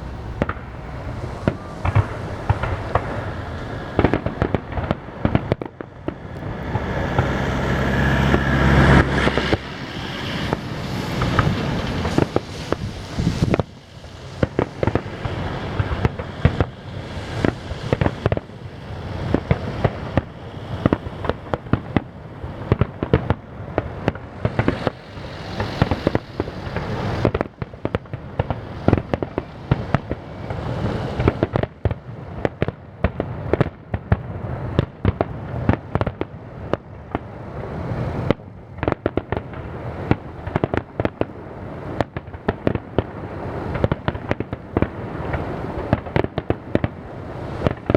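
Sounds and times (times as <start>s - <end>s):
fireworks bangs: 0.0s - 47.9s
low rumble of booms: 0.0s - 47.9s.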